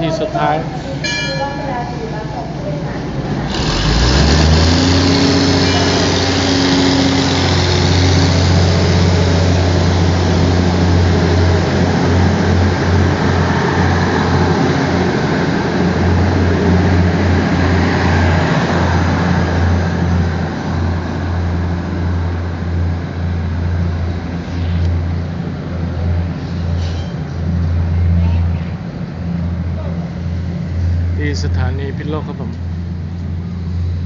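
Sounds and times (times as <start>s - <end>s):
wheels on rails: 0.0s - 29.2s
diesel engine hum: 0.0s - 34.0s.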